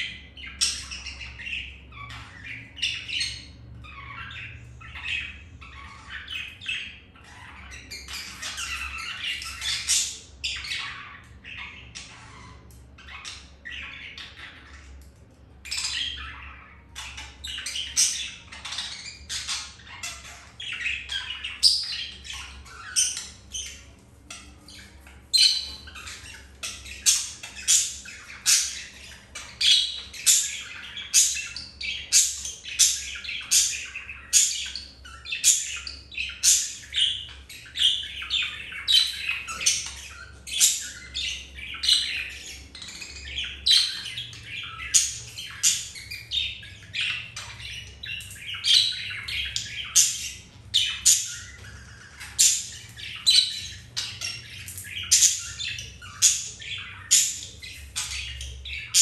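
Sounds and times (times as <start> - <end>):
budgerigars chirping squawks: 0.0 - 59.0.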